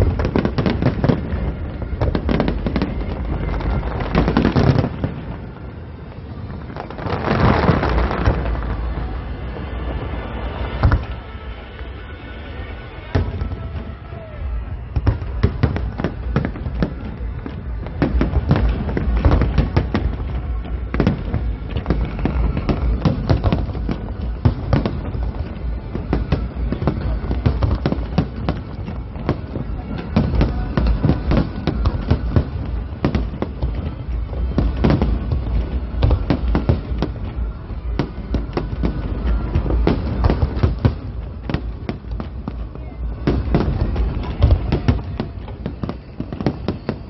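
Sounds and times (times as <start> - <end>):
fireworks bursting: 0.0 - 47.0
music: 0.0 - 47.0.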